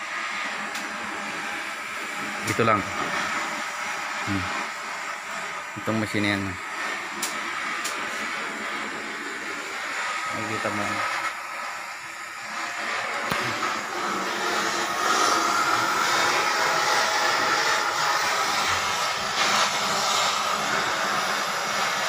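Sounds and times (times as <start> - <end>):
cutting torch hissing: 0.0 - 22.0.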